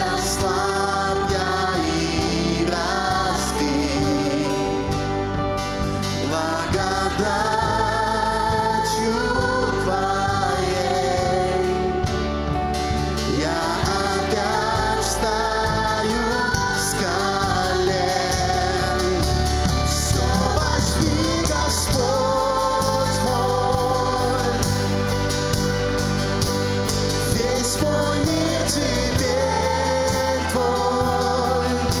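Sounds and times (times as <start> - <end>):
acoustic guitar: 0.0 - 32.0
bass guitar: 0.0 - 32.0
keyboards: 0.0 - 32.0
people singing: 0.0 - 32.0.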